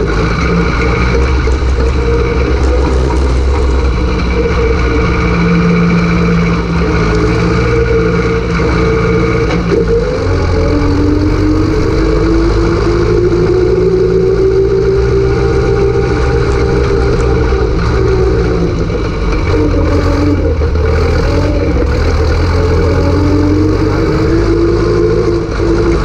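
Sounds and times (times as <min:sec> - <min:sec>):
tractor diesel engine running hard: 0:00.0 - 0:26.0.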